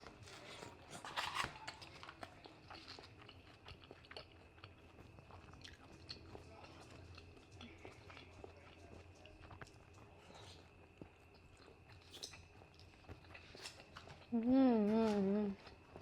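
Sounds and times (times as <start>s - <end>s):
person chewing food: 0.0s - 14.4s, 15.1s - 16.0s.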